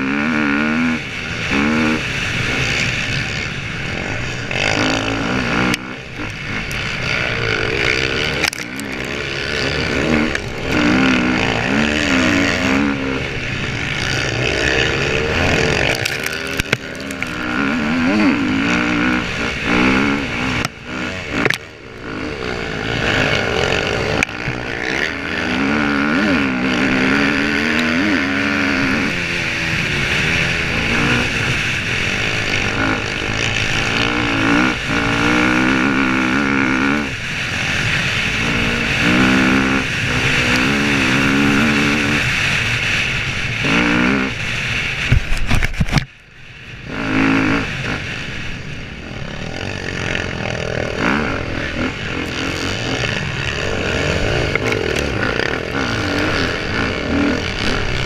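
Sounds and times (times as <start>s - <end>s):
dirt bike engine revving: 0.0s - 46.0s, 46.6s - 58.0s.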